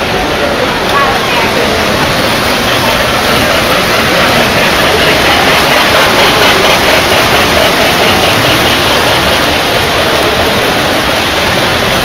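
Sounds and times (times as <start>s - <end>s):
model trains rolling on track: 0.0s - 12.0s.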